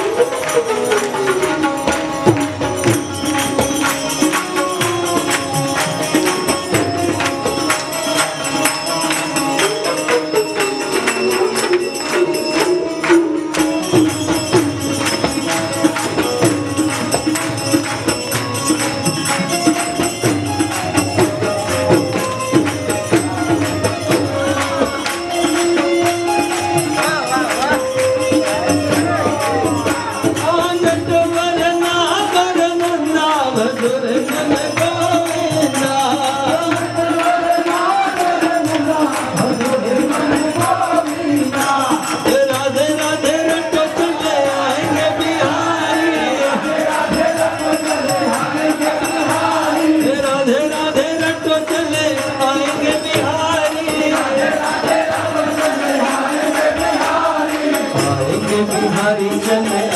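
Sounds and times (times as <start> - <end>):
crowd singing together: 0.0 - 59.9
lead singer on microphone: 0.0 - 59.9
musical accompaniment: 0.0 - 59.9.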